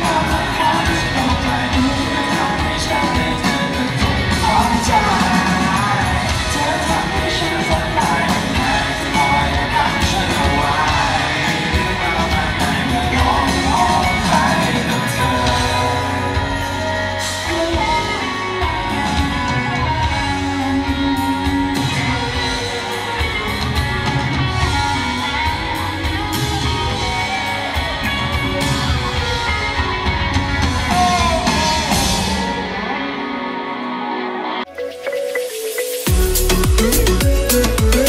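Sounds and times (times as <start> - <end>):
live rock band playing: 0.0 - 38.0
person singing: 0.0 - 38.0.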